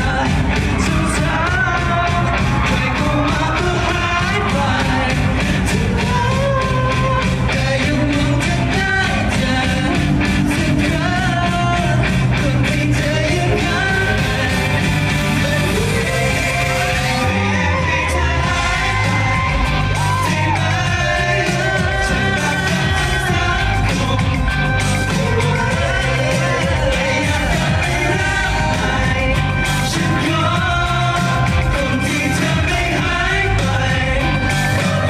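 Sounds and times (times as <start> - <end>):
man singing: 0.0 - 35.0
pop-rock music: 0.0 - 35.0.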